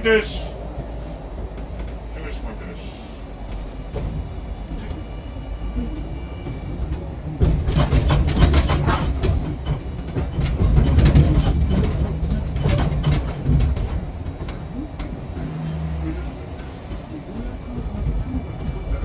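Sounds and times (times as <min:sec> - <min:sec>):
low rumble of streetcar: 0:00.0 - 0:19.0
streetcar wheels clacking on rails: 0:00.0 - 0:19.0.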